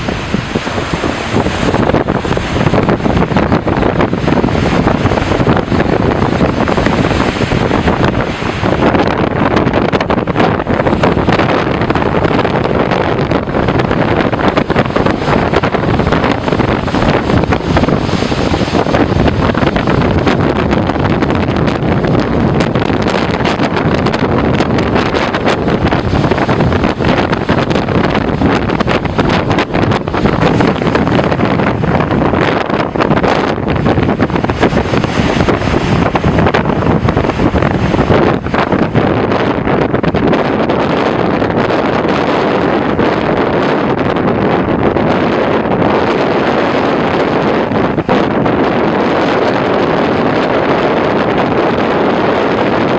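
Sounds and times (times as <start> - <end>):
storm wind buffeting microphone: 0.0 - 52.9
surf: 0.0 - 52.9.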